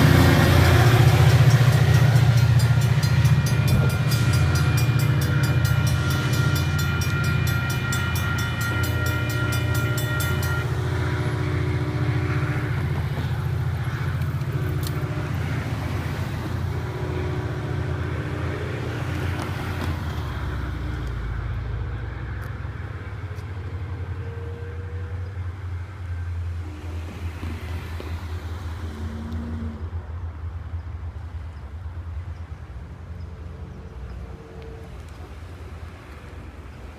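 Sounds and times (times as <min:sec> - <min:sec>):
train horn blasts: 0:00.0 - 0:21.6, 0:23.3 - 0:30.1, 0:33.3 - 0:35.7
diesel locomotive rumble: 0:00.0 - 0:36.9.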